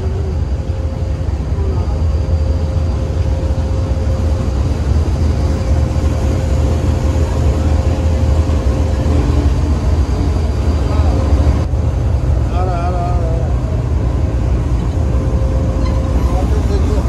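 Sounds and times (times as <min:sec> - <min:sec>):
locomotive engine rumbling: 0:00.0 - 0:17.0
thin steady whine: 0:00.0 - 0:17.0.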